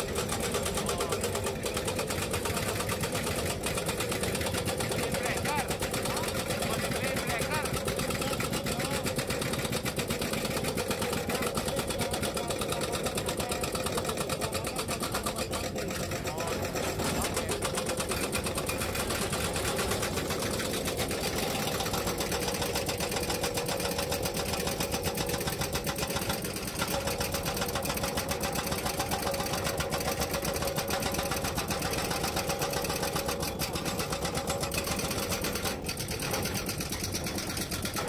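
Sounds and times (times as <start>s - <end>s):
hydraulic rock breaker hammering: 0.0s - 38.0s.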